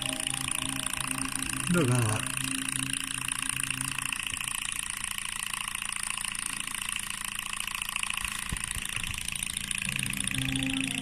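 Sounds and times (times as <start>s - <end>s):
small engine rapid clatter: 1.4s - 11.0s.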